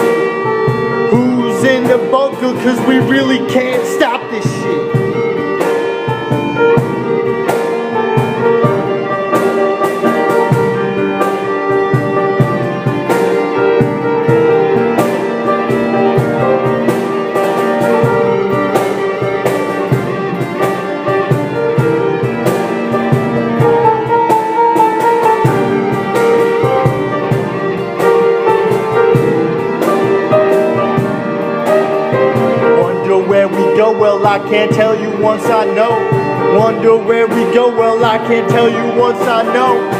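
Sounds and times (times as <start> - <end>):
drums: 0.0 - 39.9
guitar: 0.0 - 39.9
piano: 0.0 - 39.9.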